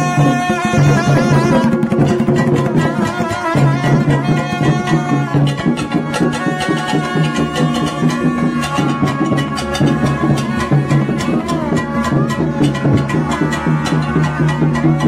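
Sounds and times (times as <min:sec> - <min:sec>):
fast hand drum beat: 0:00.0 - 0:15.0
plastic horns blowing: 0:00.0 - 0:15.0.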